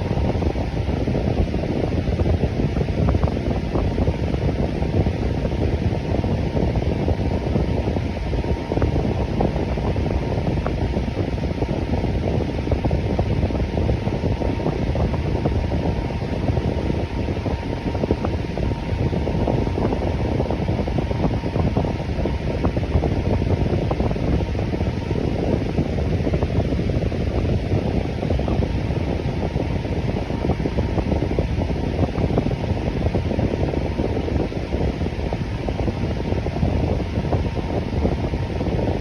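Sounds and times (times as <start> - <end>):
electric fan whooshing: 0.0 - 39.0
faint steady hum: 0.0 - 39.0.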